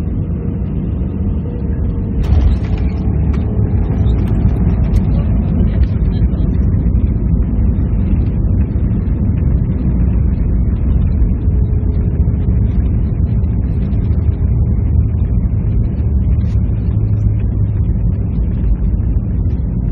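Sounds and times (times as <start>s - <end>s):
airplane cabin engine rumble: 0.0s - 19.9s.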